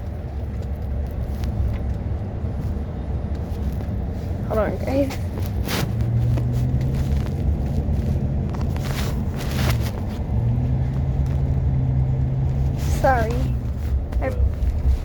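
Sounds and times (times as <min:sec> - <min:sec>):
car engine drone: 0:00.0 - 0:15.0
road rumble: 0:00.0 - 0:15.0.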